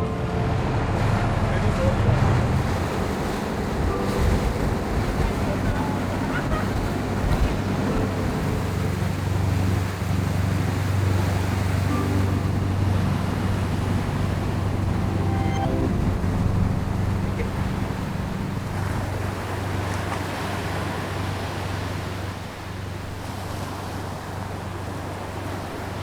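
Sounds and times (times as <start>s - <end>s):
boat engine humming: 0.0s - 26.0s
water noise: 0.0s - 26.0s
wind: 0.0s - 26.0s.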